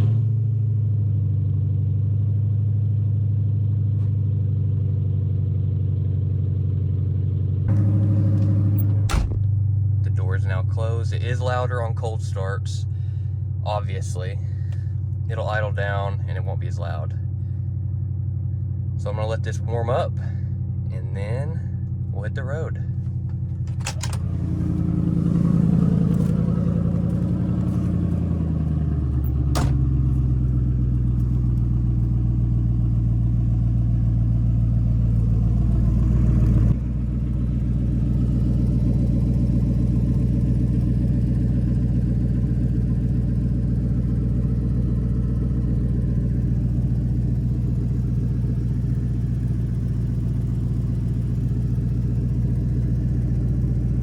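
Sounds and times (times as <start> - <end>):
car engine idling: 0.7 - 54.0.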